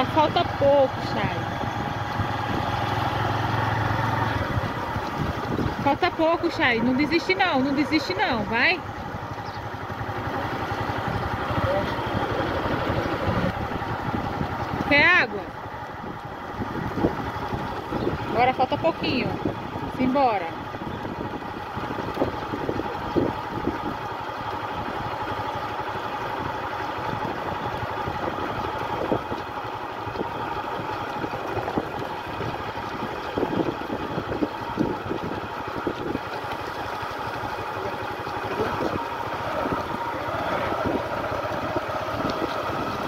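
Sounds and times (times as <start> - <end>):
wind buffeting microphone: 0.0 - 8.8, 10.9 - 24.0, 27.1 - 36.8, 37.5 - 43.0
vehicle engine running: 0.0 - 43.0.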